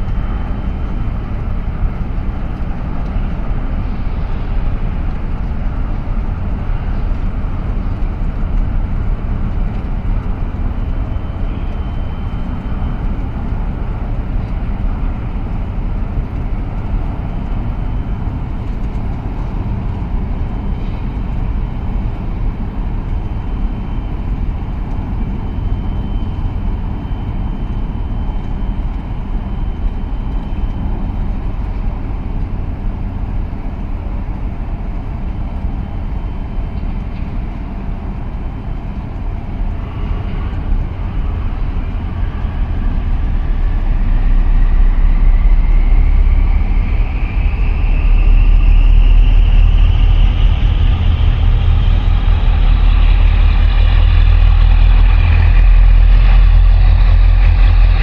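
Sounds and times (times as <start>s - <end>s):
faint high whine: 0.0s - 58.0s
ship low rumble: 0.0s - 58.0s.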